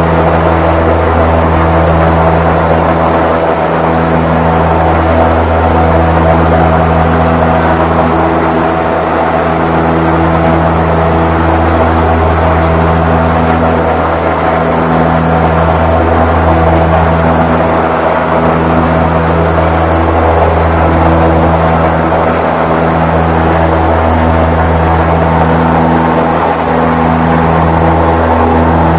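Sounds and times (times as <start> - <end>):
airship engines droning: 0.0 - 28.9.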